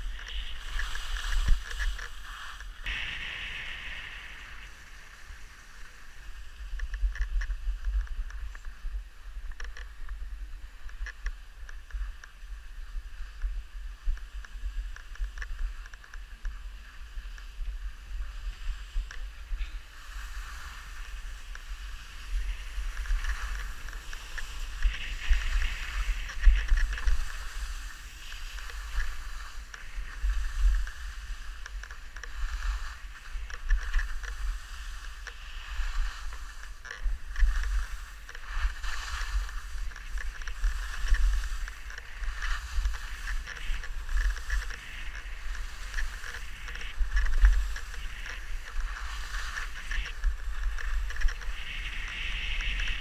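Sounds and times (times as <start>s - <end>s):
wind buffeting microphone: 0.0s - 11.4s, 16.3s - 53.0s
skis scraping over snow: 0.0s - 53.0s.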